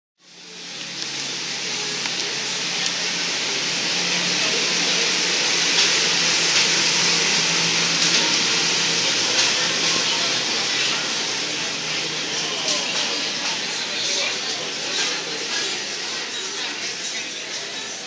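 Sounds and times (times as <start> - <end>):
steam hissing: 0.4 - 16.0.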